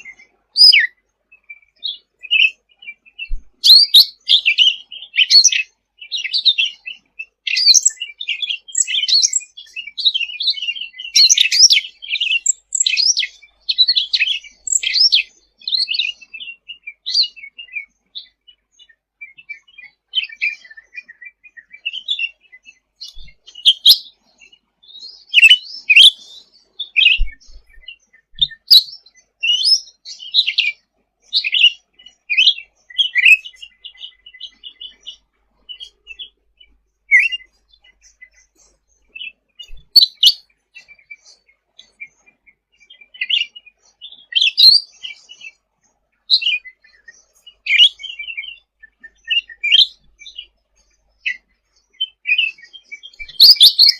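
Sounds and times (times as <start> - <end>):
songbird chirping and trilling: 0.0 - 53.9.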